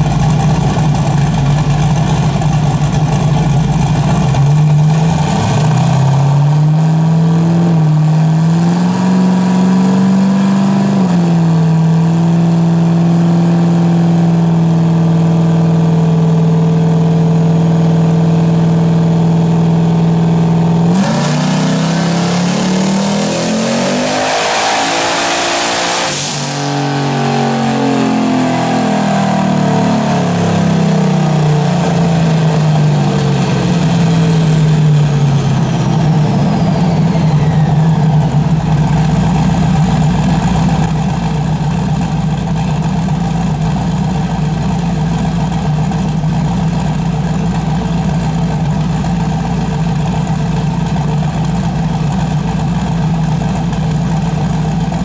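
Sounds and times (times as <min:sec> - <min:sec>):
car engine on dyno: 0:00.0 - 0:55.0.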